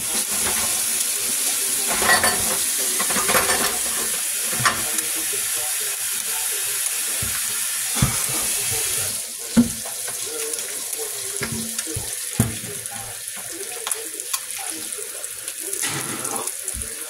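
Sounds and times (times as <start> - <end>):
eggs sizzling in a skillet: 0.0 - 17.0.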